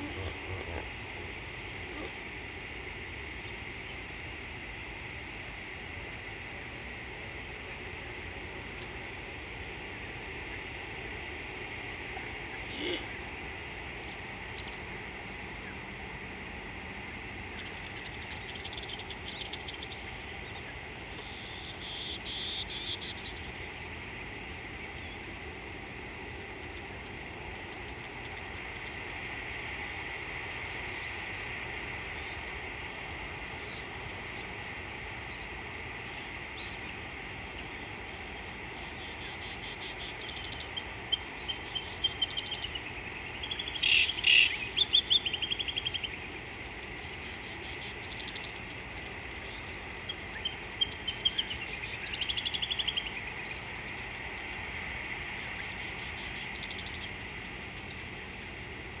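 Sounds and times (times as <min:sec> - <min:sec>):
insect chorus drone: 0:00.0 - 0:59.0
rapid insect chirping: 0:00.0 - 0:59.0.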